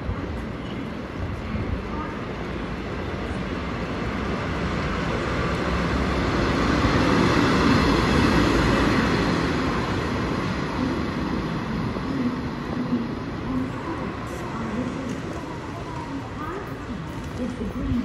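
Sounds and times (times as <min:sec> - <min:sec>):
diesel locomotive passing: 0:00.0 - 0:18.0.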